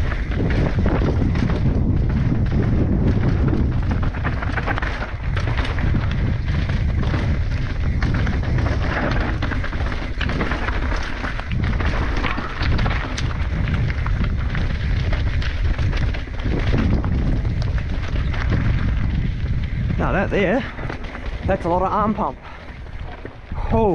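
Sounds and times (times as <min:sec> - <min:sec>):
bike rattling clicks and knocks: 0:00.0 - 0:23.9
tyres crunching over stones: 0:00.0 - 0:23.9
wind buffeting microphone: 0:00.0 - 0:23.9.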